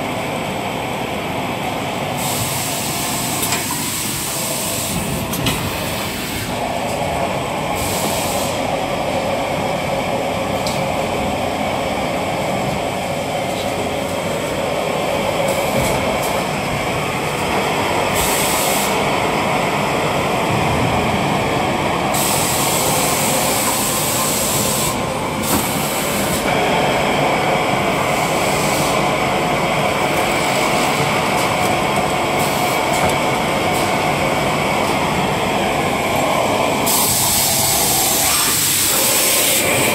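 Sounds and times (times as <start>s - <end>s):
loud machine noise: 0.0s - 39.9s.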